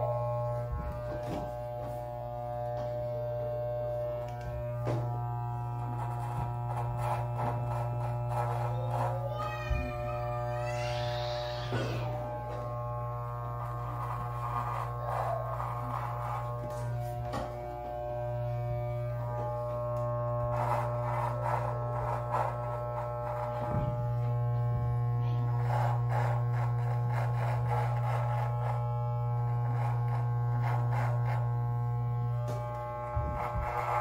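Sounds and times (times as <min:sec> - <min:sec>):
electric beard trimmer buzzing: 0:00.0 - 0:34.0.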